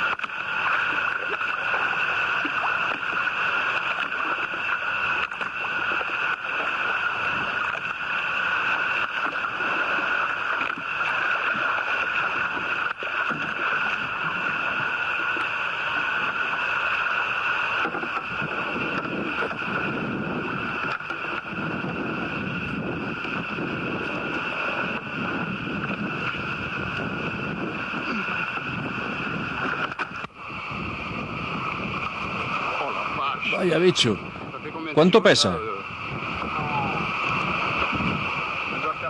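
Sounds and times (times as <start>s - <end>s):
water sloshing against boat: 0.0s - 39.0s.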